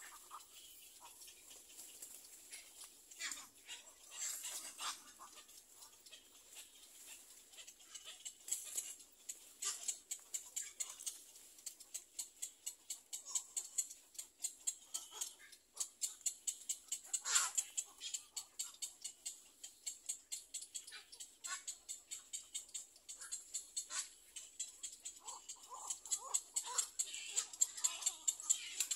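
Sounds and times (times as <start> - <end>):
chicks ticking calls: 0.0 - 28.9
harsh chick calls: 0.0 - 28.9.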